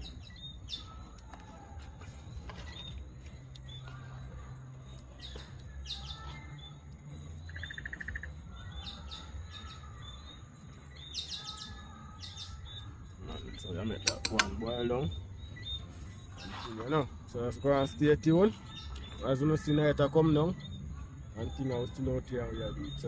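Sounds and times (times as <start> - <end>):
bird trill: 0.0 - 23.0
wild birds chirping: 0.0 - 23.0.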